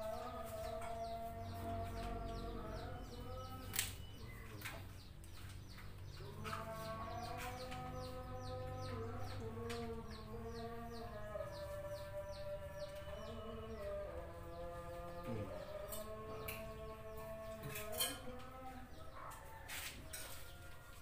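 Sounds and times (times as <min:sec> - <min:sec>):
chickens peeping: 0:00.0 - 0:21.0.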